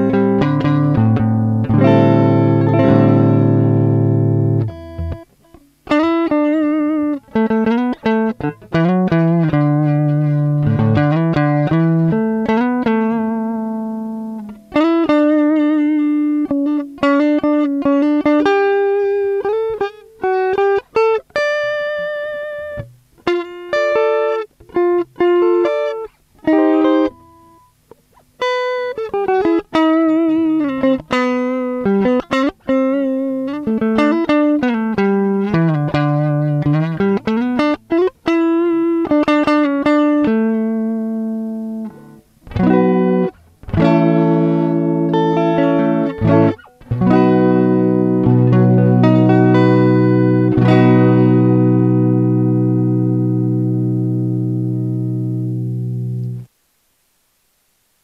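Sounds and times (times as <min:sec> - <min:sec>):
clean electric guitar: 0:00.0 - 0:56.5.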